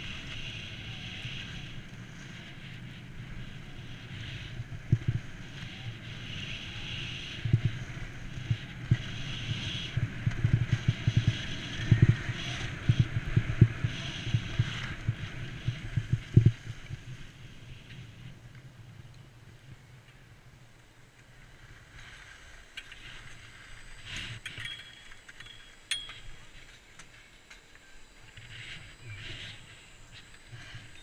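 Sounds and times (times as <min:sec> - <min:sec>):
skis scraping over snow: 0:00.0 - 0:25.4, 0:26.3 - 0:31.0
wind rumbling on microphone: 0:00.0 - 0:27.2, 0:28.0 - 0:31.0.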